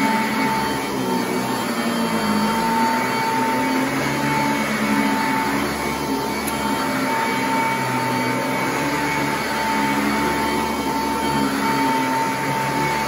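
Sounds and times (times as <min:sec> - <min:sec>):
upright vacuum cleaner running: 0:00.0 - 0:13.0.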